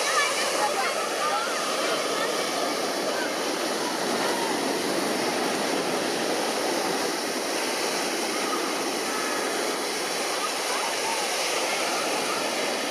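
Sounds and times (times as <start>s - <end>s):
murmur of a large crowd: 0.0s - 12.9s
surf washing: 0.0s - 12.9s.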